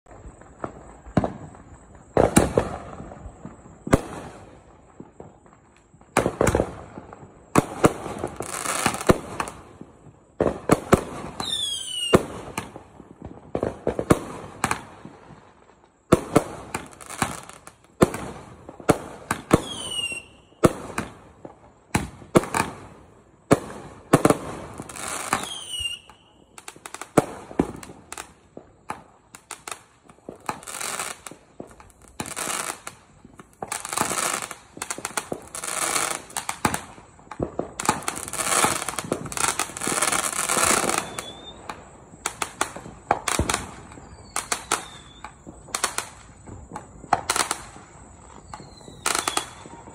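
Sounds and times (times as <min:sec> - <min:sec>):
falling firework whistles: 0:00.1 - 0:49.9
fireworks bangs with crackle: 0:00.1 - 0:49.9.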